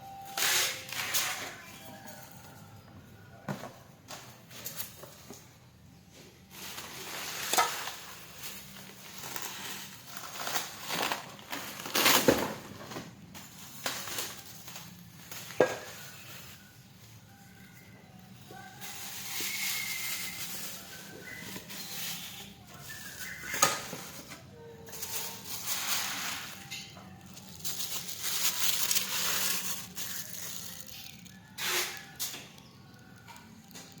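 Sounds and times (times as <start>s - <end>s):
plastic and cardboard crinkling: 6.4s - 34.0s.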